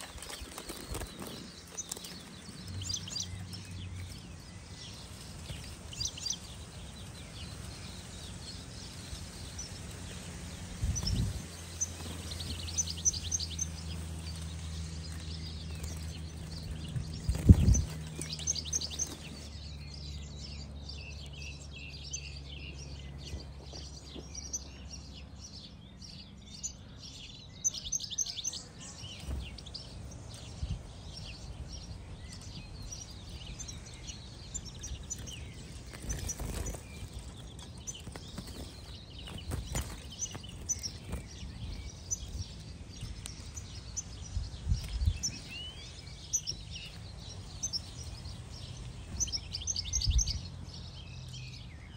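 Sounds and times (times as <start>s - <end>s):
finches chirping: 0.0s - 51.9s.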